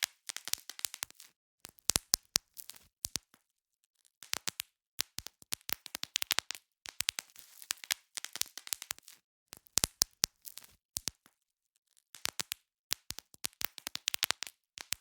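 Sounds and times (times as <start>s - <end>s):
bubble wrap popping: 0.0s - 3.4s, 4.2s - 11.3s, 12.1s - 15.0s.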